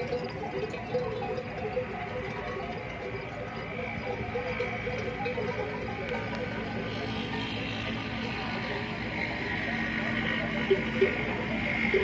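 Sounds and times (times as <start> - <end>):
camel bells clanking and jingling: 0.0 - 12.0.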